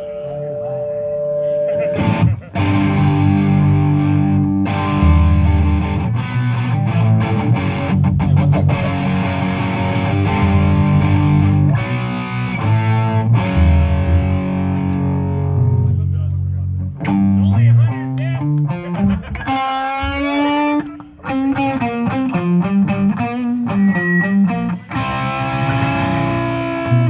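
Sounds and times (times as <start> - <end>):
bass guitar: 0.0 - 27.0
distorted electric guitars: 0.0 - 27.0.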